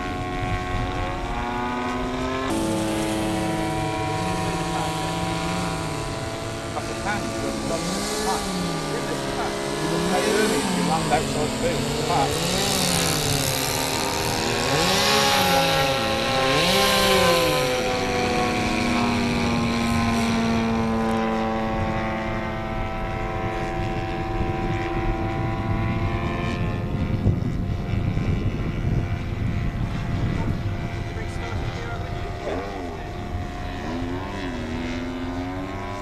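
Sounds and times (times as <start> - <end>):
model aeroplane engine: 0.0 - 36.0.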